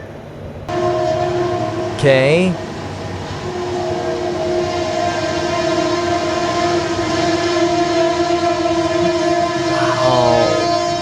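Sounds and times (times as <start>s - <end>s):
moving train rumble: 0.4s - 11.0s
train horn chord: 0.7s - 11.0s.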